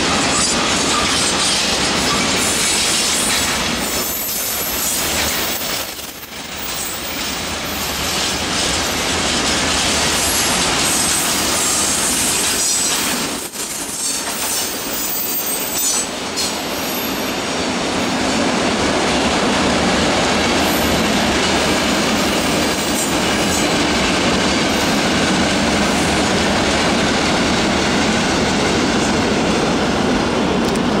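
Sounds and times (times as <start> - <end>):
train wheels rumbling and rattling: 0.0 - 31.0.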